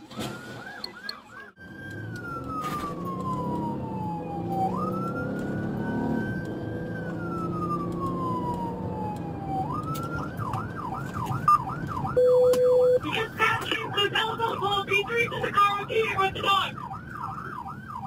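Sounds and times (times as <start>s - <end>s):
engine and road noise: 0.0s - 18.0s
police siren yelp and wail: 0.0s - 18.0s.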